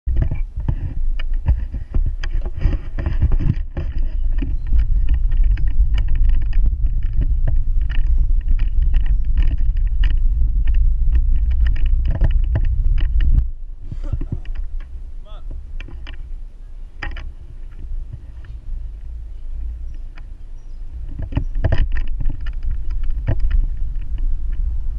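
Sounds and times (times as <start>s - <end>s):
wind buffeting microphone: 0.0s - 24.9s
camera and bike rattling: 0.1s - 24.9s.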